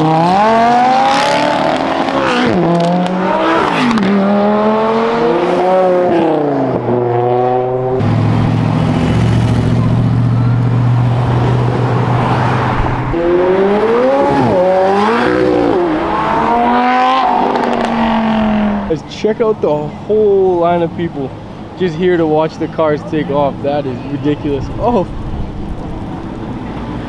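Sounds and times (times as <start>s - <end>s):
car engines revving hard: 0.0s - 27.0s.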